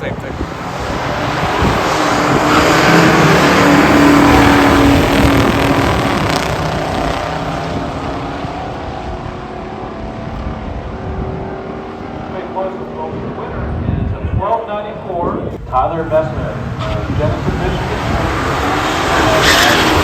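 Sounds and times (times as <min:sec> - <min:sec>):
cars racing at full throttle: 0:00.0 - 0:20.0.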